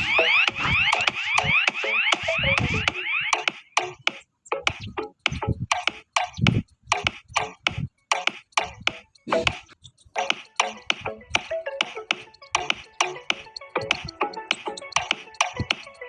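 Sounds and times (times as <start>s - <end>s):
music with quick percussive beat: 0.0s - 16.0s.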